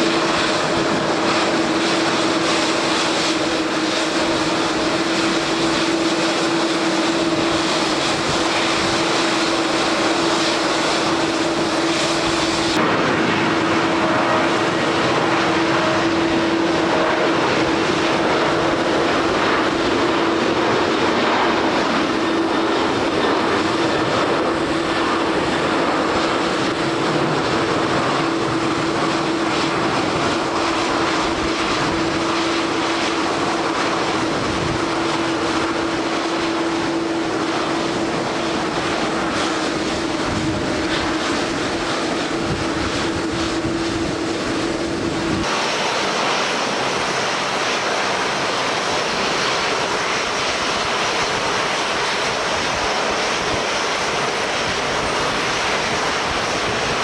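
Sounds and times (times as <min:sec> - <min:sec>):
airliner engines humming: 0:00.0 - 0:57.0.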